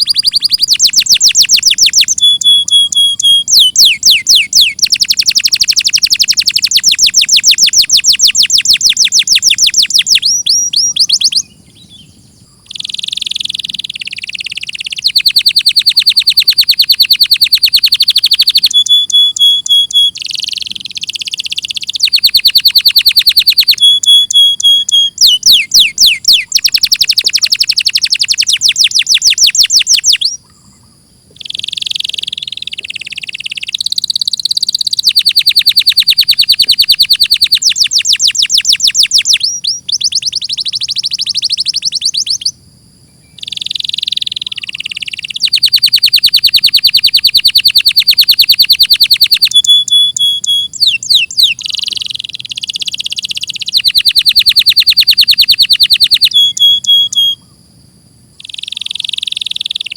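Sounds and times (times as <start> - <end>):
canary singing trills: 0.0 - 57.6, 58.2 - 59.9.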